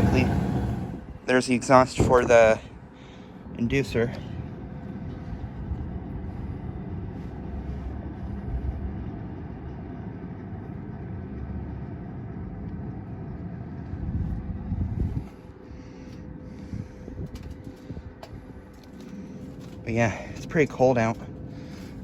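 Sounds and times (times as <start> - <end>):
furnace vent pipe blowing: 0.0 - 22.0.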